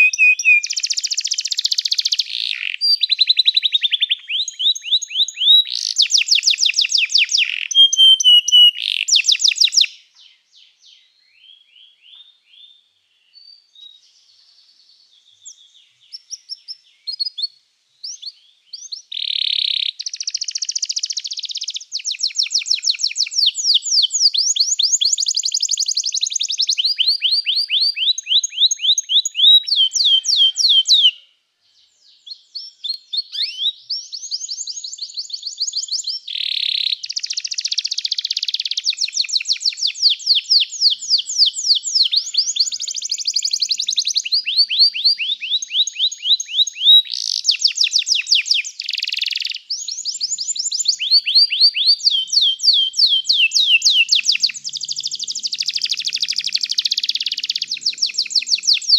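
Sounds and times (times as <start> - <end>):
canary singing trills: 0.0 - 14.3, 15.3 - 31.3, 32.1 - 58.9.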